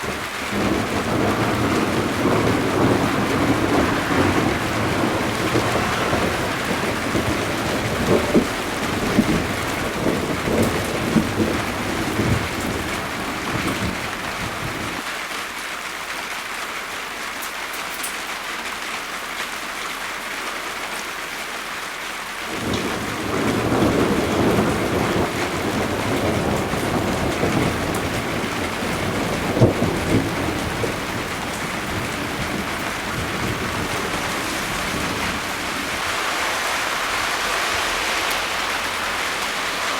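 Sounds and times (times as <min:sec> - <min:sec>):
low rumble of thunder: 0:00.0 - 0:15.0, 0:22.5 - 0:39.9
rain falling: 0:00.0 - 0:39.9.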